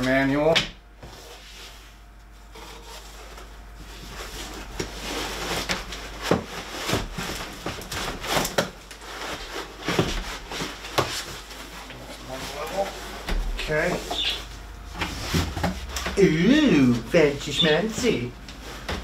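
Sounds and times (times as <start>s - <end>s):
cardboard and packing rustling: 1.0s - 17.3s, 18.0s - 19.0s.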